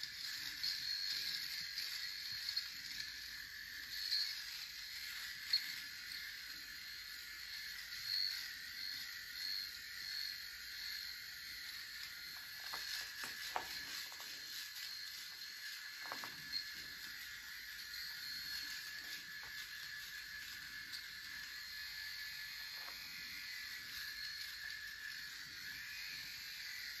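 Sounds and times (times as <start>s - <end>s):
electric shaver buzzing: 0.0s - 27.0s.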